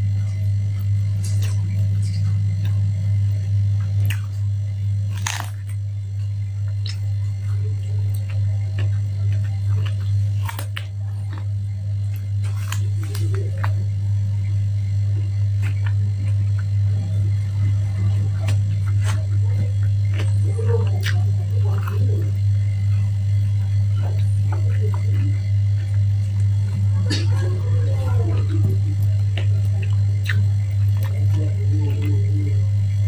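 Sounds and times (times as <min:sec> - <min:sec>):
crunchy chewing: 0:00.0 - 0:33.0
low hum: 0:00.0 - 0:33.0.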